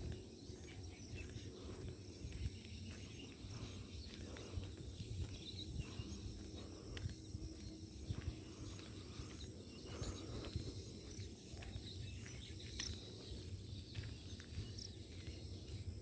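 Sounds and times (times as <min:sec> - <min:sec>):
bird chirps: 0:00.0 - 0:16.0
footsteps on paved road: 0:00.0 - 0:16.0
wind rumble on microphone: 0:00.0 - 0:16.0.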